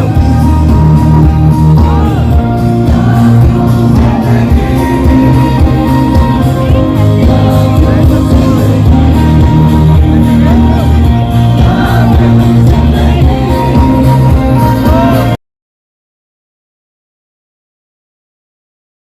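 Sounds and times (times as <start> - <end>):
crowd shouting along: 0.0 - 15.4
live band music with singing: 0.0 - 15.4.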